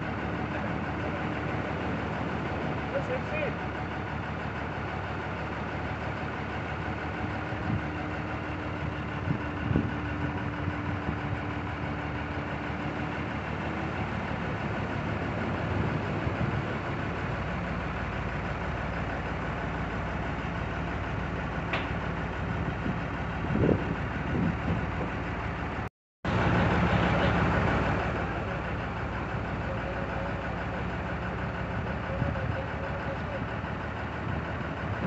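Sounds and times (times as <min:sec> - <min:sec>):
crane engine running: 0:00.0 - 0:35.0.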